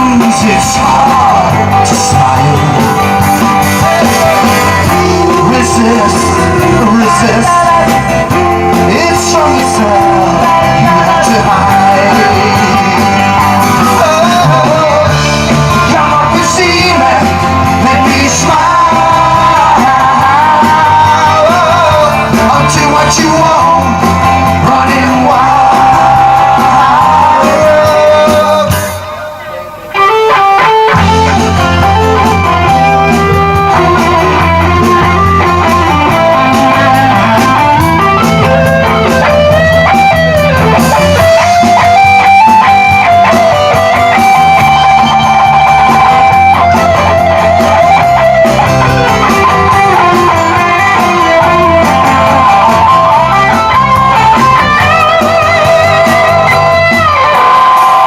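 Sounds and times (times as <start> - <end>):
bass guitar: 0.0 - 58.0
drums: 0.0 - 58.0
lead guitar melody: 0.0 - 58.0.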